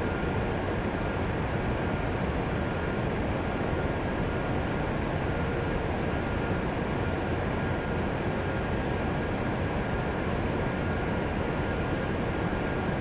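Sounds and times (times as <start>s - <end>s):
faint steady whine: 0.0s - 13.0s
train equipment and cooling fans whir: 0.0s - 13.0s.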